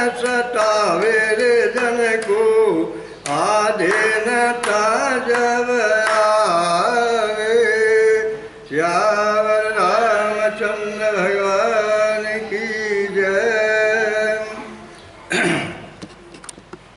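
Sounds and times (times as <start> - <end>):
man singing: 0.0 - 14.8.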